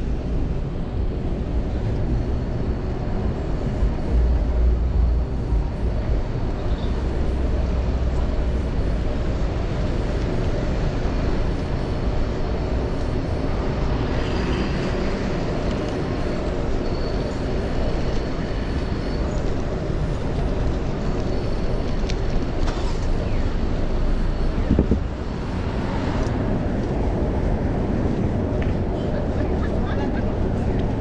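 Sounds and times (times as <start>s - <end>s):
road and traffic noise: 0.0s - 31.0s
wind rumbling on microphone: 0.0s - 31.0s.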